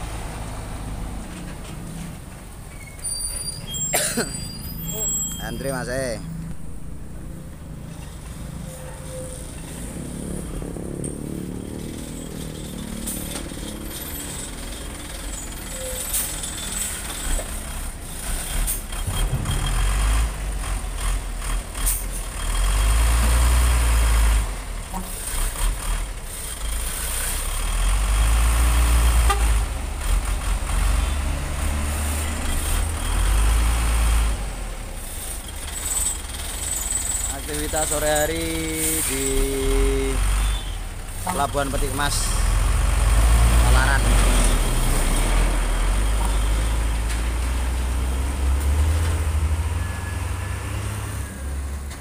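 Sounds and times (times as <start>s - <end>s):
diesel trucks passing: 0.0s - 52.0s.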